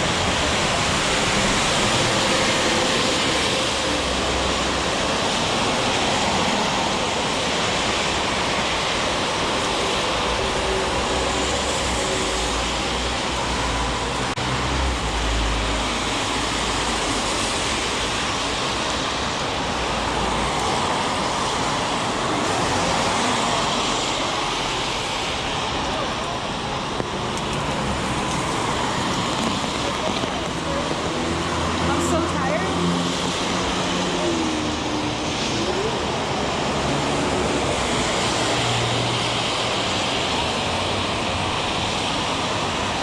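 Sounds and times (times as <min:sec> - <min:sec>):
heavy rain on street: 0:00.0 - 0:43.0
traffic rumble: 0:00.0 - 0:43.0.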